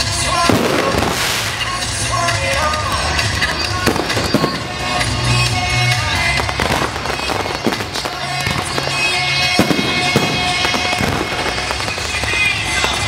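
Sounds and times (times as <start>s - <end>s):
firecrackers popping and banging: 0.0s - 13.0s
loud music with pulsing bass: 0.0s - 13.0s.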